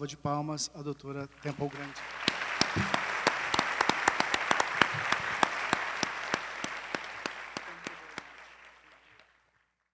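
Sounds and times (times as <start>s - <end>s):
audience applauding: 1.4s - 9.9s.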